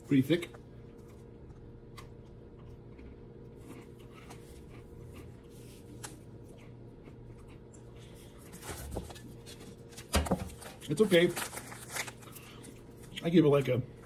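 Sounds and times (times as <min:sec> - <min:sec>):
chewing crisp cookie: 0:00.0 - 0:09.9, 0:10.8 - 0:14.0
steady low hum: 0:00.0 - 0:14.0.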